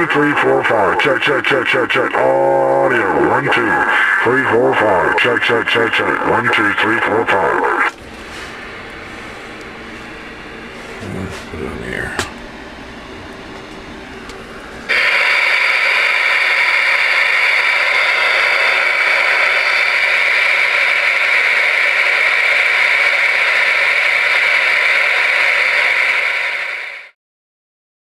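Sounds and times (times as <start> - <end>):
radio static: 0.0 - 27.2.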